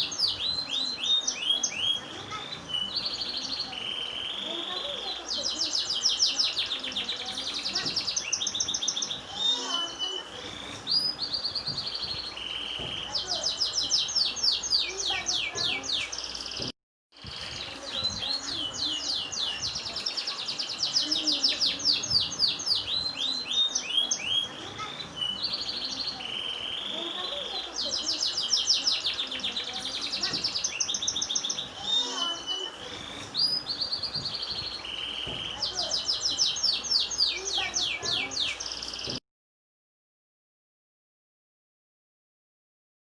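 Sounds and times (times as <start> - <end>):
canary singing trills: 0.0 - 39.2.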